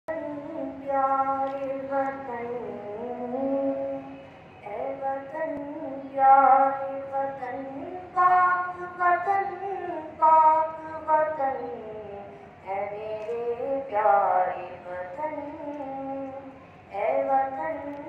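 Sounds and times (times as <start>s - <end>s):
boy singing into a microphone: 0.1s - 18.0s.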